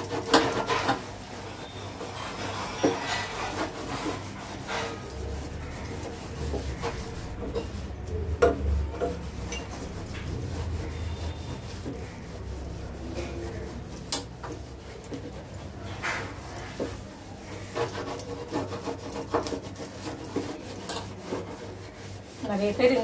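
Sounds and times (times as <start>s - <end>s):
scrubber scratching on metal stove: 0.0s - 23.0s.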